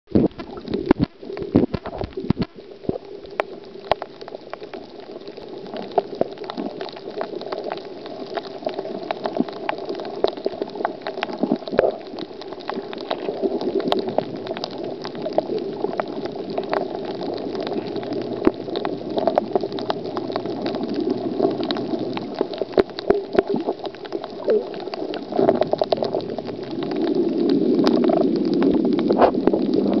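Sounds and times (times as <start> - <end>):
muffled underwater water rush: 0.1 - 30.0
underwater clicks and crackles: 0.1 - 30.0.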